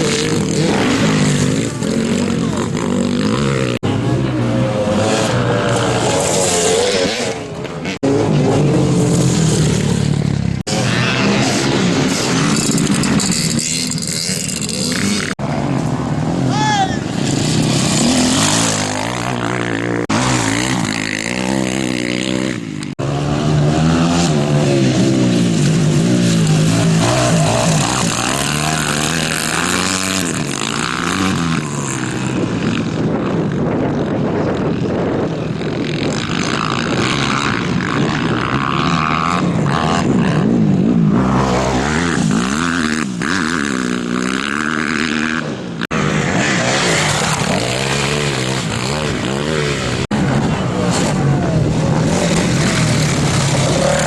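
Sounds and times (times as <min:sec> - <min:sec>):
motorcycles revving and passing: 0:00.0 - 0:54.0.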